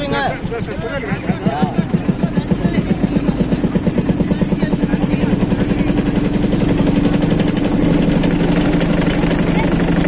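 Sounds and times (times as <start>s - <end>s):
boat engine chugging: 0.0s - 10.0s.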